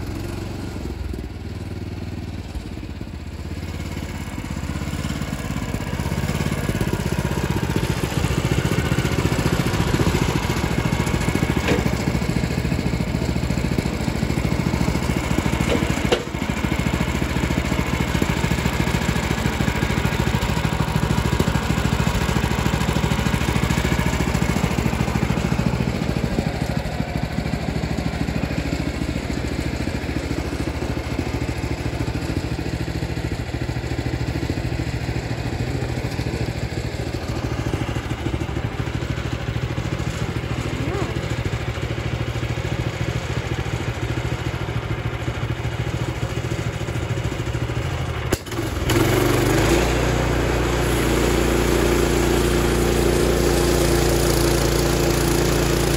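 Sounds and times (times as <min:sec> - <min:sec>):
gasoline engine running: 0:00.0 - 0:55.9.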